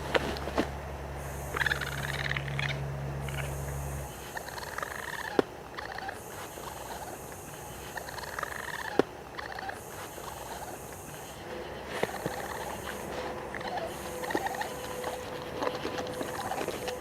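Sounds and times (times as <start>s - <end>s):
high hiss: 1.2s - 17.0s
raccoon trilling: 1.2s - 17.0s.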